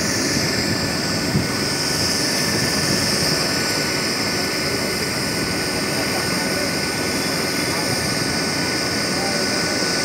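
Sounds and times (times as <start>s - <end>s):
helicopter turbine whine and rotor: 0.0s - 10.0s.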